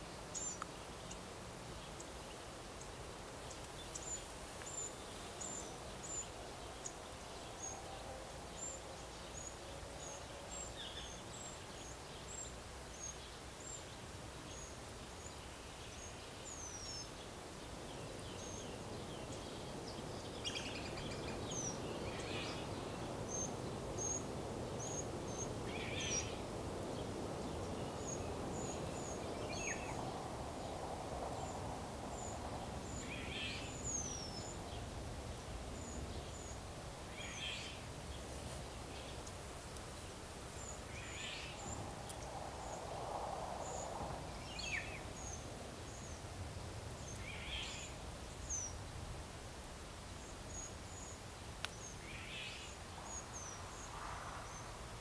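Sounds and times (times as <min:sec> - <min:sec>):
small birds chirping: 0:00.0 - 0:49.0, 0:50.0 - 0:54.8.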